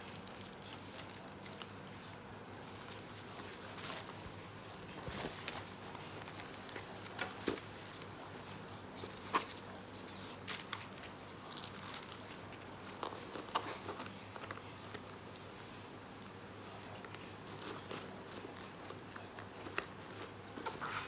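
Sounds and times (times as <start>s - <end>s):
fabric and plastic rustling: 0.0s - 21.0s.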